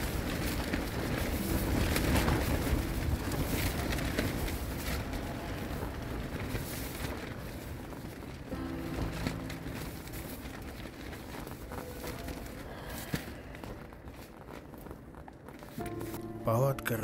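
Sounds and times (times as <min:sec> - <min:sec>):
wind buffeting microphone: 0:00.0 - 0:15.8.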